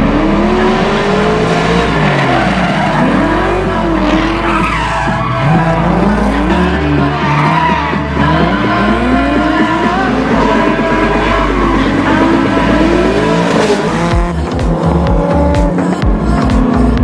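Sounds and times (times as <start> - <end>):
tyres spinning and squealing: 0.0 - 15.5
car engines revving: 0.0 - 17.0.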